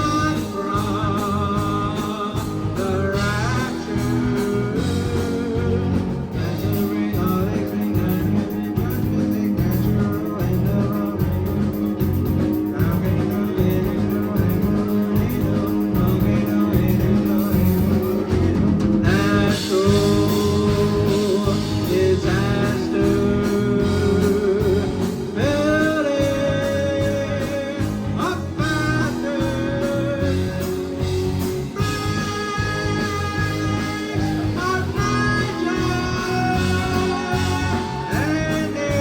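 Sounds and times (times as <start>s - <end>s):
bass guitar: 0.0s - 39.0s
drums: 0.0s - 39.0s
electric guitar: 0.0s - 39.0s
person singing: 0.0s - 39.0s.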